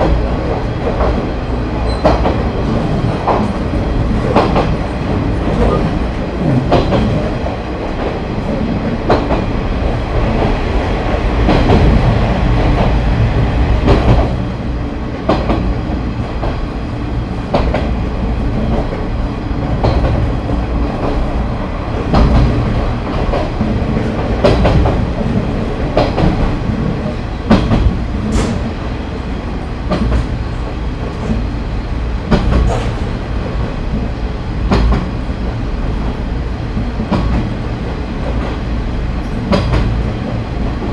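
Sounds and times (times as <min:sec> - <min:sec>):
diesel railcar rumbling: 0:00.0 - 0:40.9.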